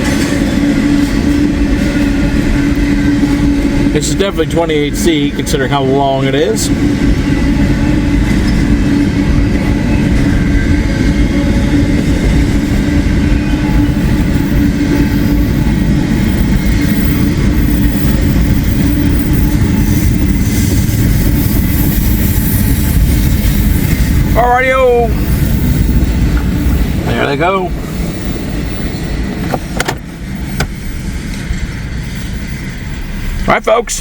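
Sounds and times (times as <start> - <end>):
train wheels on rail: 0.0 - 34.0.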